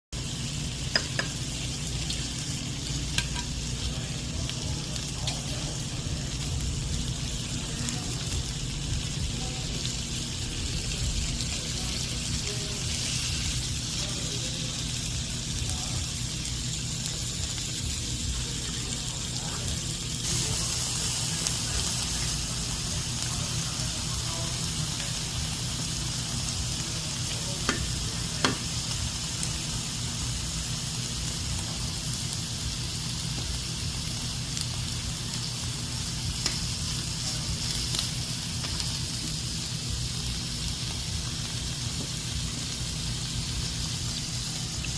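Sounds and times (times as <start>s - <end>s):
meat sizzling over a fire: 0.2s - 44.9s.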